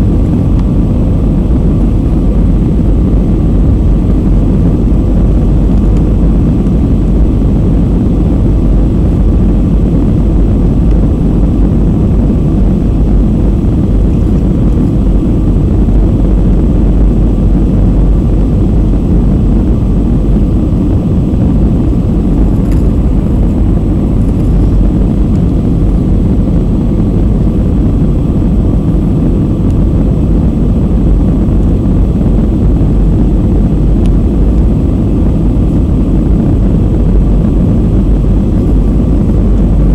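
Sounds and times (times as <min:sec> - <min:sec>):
airliner engines droning: 0:00.0 - 0:39.9
rushing air: 0:00.0 - 0:39.9.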